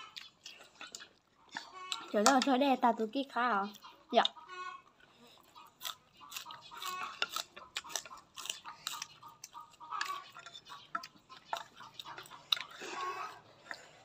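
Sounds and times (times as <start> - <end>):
person chewing noodles: 0.0 - 2.5, 3.7 - 14.0.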